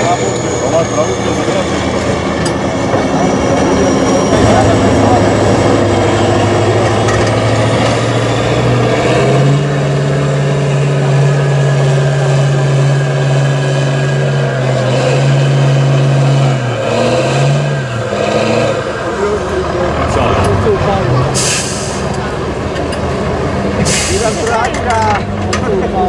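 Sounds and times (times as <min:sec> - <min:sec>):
truck diesel engine under load: 0:00.0 - 0:26.0.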